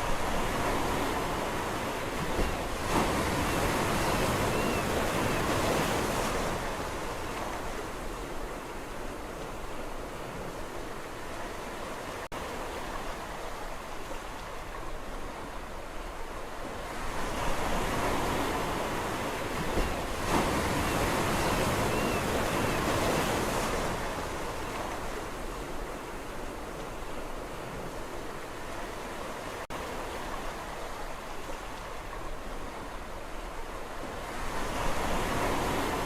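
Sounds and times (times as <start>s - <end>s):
sea waves washing onto shore: 0.0s - 36.0s.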